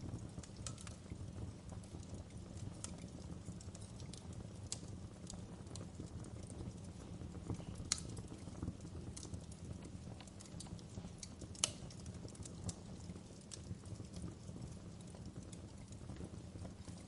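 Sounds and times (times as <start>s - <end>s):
burning logs crackling: 0.0s - 17.0s
low rumble of flames: 0.0s - 17.0s
sharp pops from fire: 0.0s - 17.0s.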